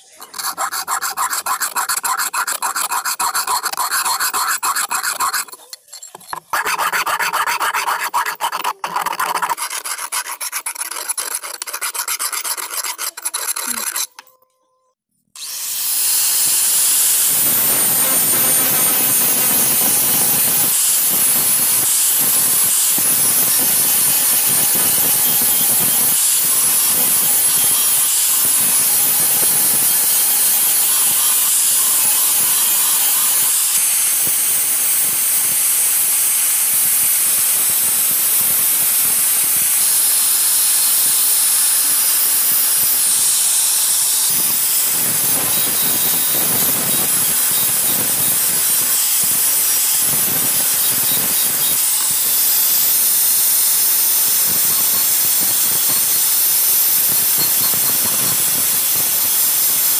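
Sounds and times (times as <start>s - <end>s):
angle grinder grinding steel: 0.0s - 14.3s, 15.4s - 59.9s.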